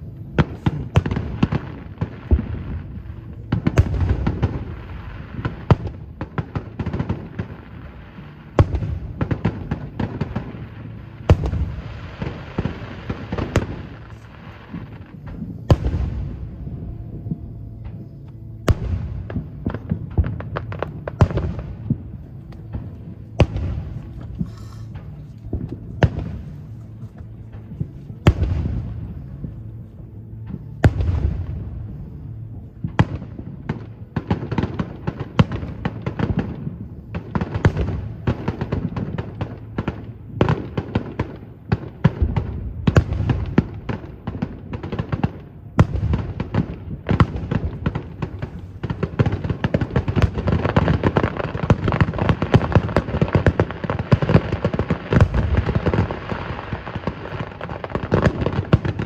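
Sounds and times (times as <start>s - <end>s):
fireworks bangs and crackling: 0.0s - 59.0s
fireworks booms: 0.0s - 59.0s.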